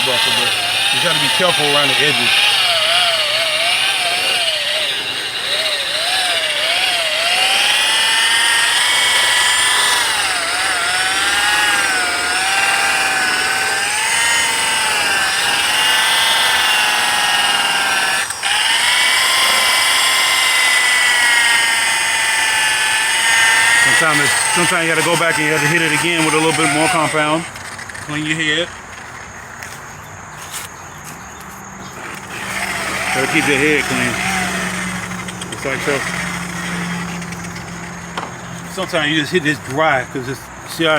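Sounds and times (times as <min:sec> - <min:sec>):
rotary buffer whining: 0:00.0 - 0:40.9.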